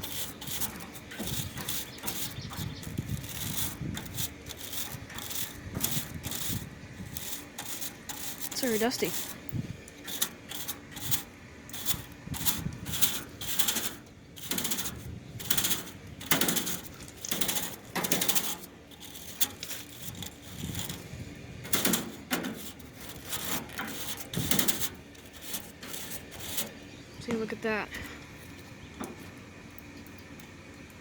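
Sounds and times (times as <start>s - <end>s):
brush scrubbing metal fins: 0.0s - 27.6s.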